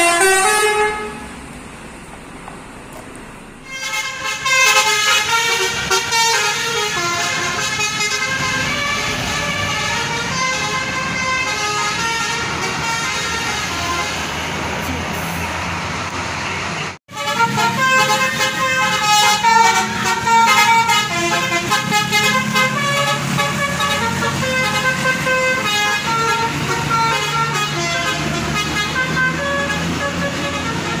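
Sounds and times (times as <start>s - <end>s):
musical bus horn playing tune: 0.0s - 1.4s, 3.6s - 14.5s, 17.1s - 31.0s
bus engine hum: 0.0s - 31.0s
street traffic noise: 0.0s - 31.0s.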